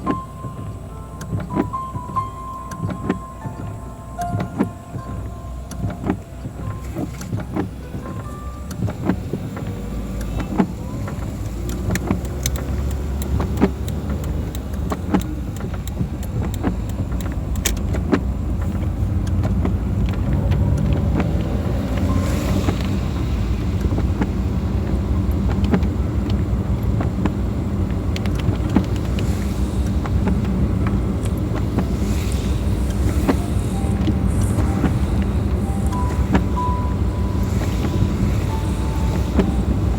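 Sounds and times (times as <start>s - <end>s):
car driving on wet road: 0.0s - 39.9s
sharp ticks: 0.0s - 39.9s.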